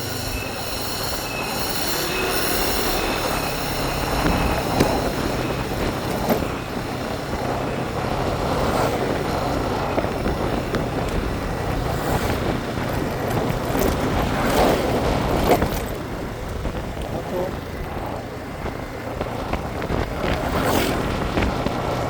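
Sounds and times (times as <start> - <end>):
motorbike engine rumble: 0.0 - 22.0
road noise: 0.0 - 22.0.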